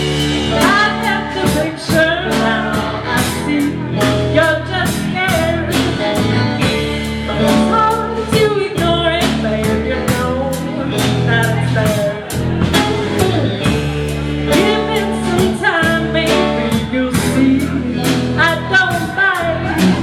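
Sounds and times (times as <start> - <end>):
drum kit beat: 0.0 - 20.0
live blues-rock band: 0.0 - 20.0
person singing: 0.0 - 20.0.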